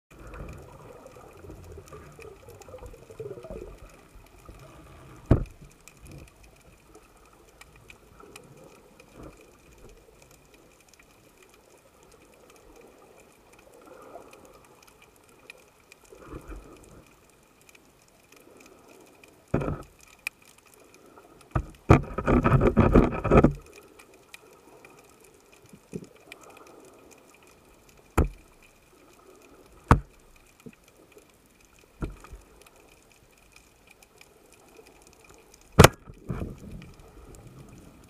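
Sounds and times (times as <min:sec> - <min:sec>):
underwater rush of water: 0:00.1 - 0:38.0
small clicks: 0:00.2 - 0:38.0.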